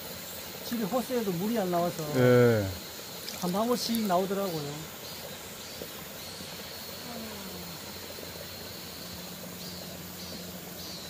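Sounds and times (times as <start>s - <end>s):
cicadas buzzing: 0.0s - 11.0s
mountain stream hissing: 0.0s - 11.0s.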